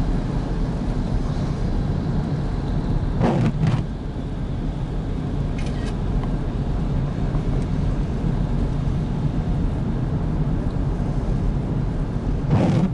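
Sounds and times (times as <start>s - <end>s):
car driving on road: 0.0s - 12.9s.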